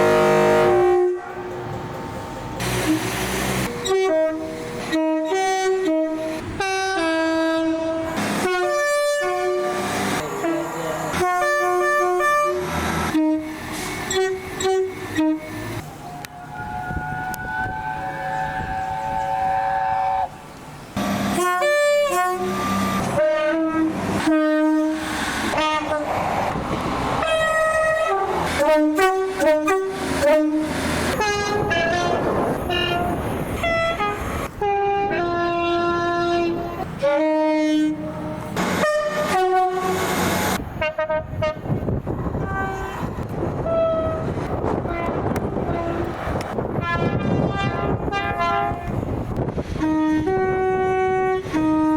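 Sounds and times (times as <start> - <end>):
train air horn blasts: 0.0 - 1.7, 2.6 - 20.4, 21.0 - 26.1, 27.2 - 51.9.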